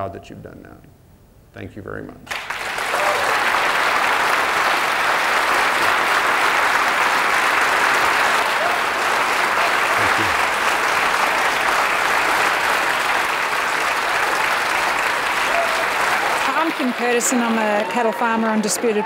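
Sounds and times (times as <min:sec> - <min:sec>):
audience applause: 0:02.3 - 0:19.0.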